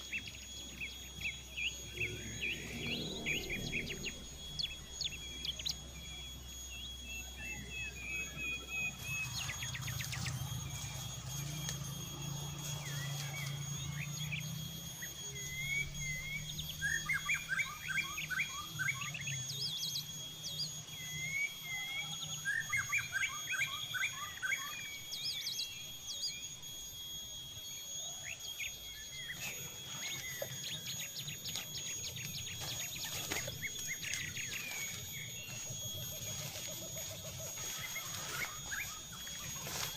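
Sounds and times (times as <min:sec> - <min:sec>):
forest birds singing: 0:00.0 - 0:39.9
steady high tone: 0:00.0 - 0:39.9.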